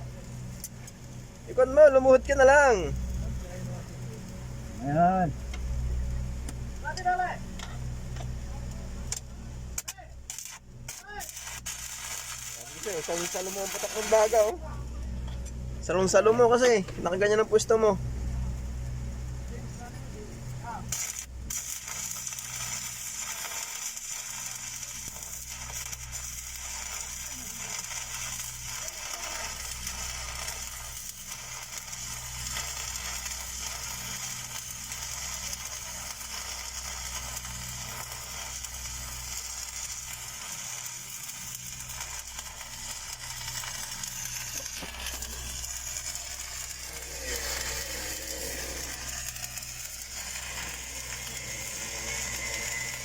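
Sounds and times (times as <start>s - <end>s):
low steady hum: 0.0s - 53.0s
welding arc crackling: 0.0s - 53.0s.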